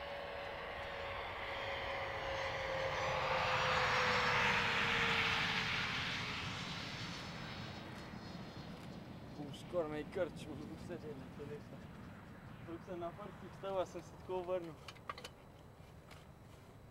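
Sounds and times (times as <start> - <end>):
jet engine rush: 0.0 - 14.7
jet engines whining: 0.0 - 14.8.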